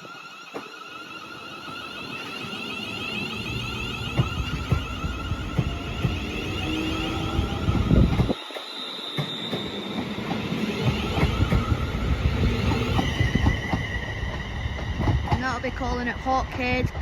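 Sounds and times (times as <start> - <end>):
high-pitched whine: 0.0 - 17.0
train wheels rumbling on rails: 0.0 - 17.0.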